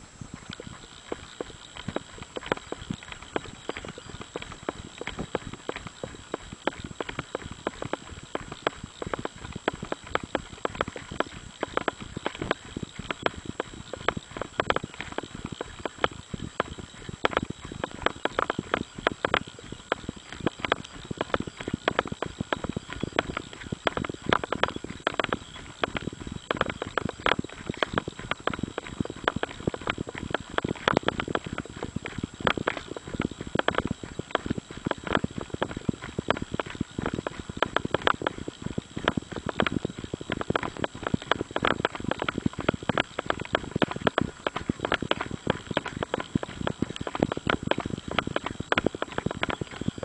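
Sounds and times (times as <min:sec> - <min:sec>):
running footsteps on gravel: 0:00.3 - 0:50.0.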